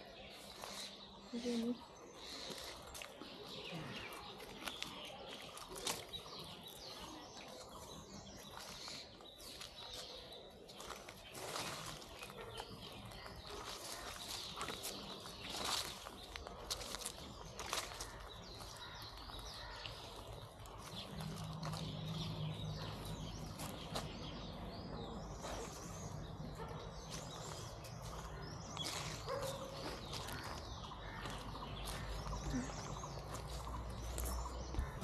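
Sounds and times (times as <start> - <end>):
birds chirping and calling: 0.0 - 35.0
faint outdoor ambience: 0.0 - 35.0.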